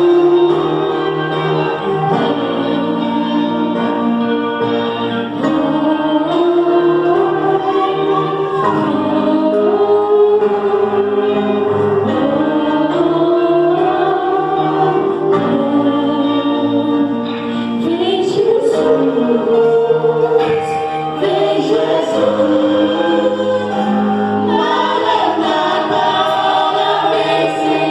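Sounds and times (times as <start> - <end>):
choir singing held notes: 0.0 - 27.9
gospel band playing: 0.0 - 27.9
keyboard chords: 0.0 - 27.9.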